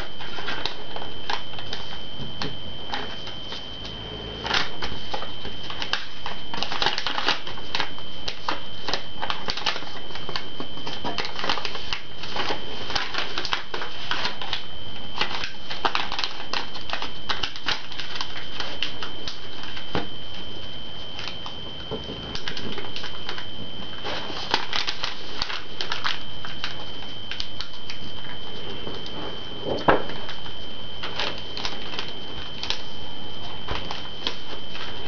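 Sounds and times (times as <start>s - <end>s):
paper crackling and rustling: 0.0s - 35.0s
steady high-pitched whine: 0.0s - 35.0s.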